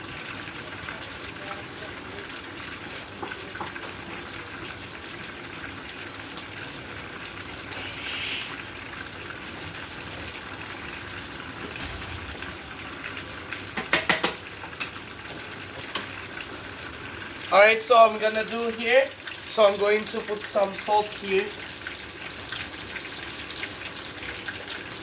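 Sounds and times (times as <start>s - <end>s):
sauce bubbling and sizzling: 0.0s - 25.0s.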